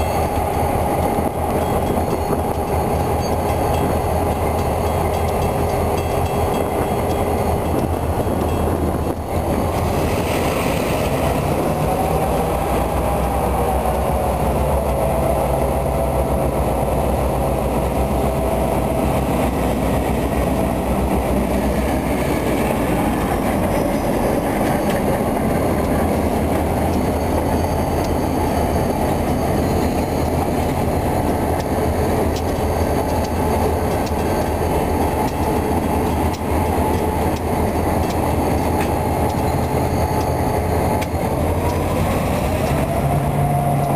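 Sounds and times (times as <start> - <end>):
diesel locomotive engines running: 0.0 - 43.9
wheels clattering on rail: 0.0 - 43.9.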